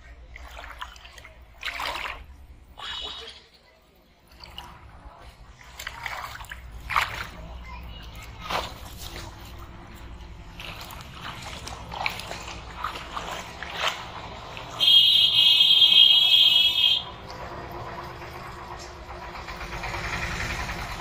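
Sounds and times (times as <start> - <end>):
water splashing and dripping: 0.0 - 21.0.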